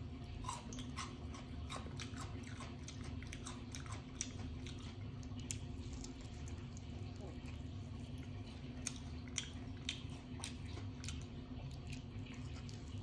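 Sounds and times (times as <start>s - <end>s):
person biting and chewing chicken: 0.3s - 13.0s.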